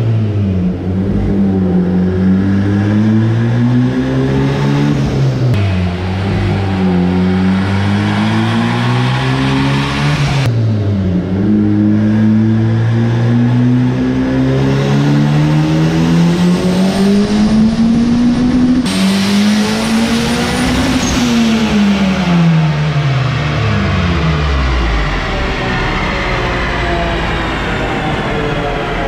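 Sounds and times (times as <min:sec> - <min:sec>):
turbocharged engine revving: 0:00.0 - 0:29.0.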